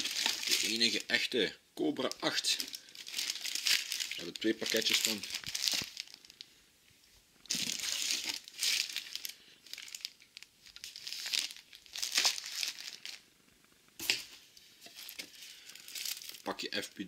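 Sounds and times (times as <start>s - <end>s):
plastic wrapping crinkling: 0.0s - 1.3s, 2.0s - 6.5s, 7.4s - 13.3s, 14.0s - 17.0s.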